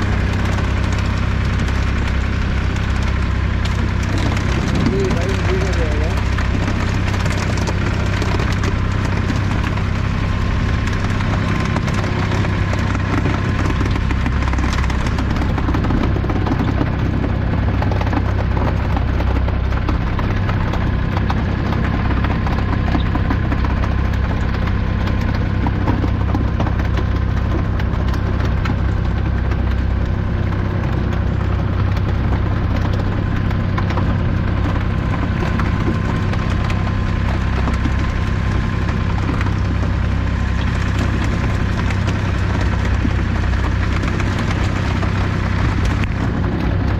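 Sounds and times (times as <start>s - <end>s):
boat motor idling: 0.0s - 46.9s
water splashing at hull: 0.0s - 46.9s.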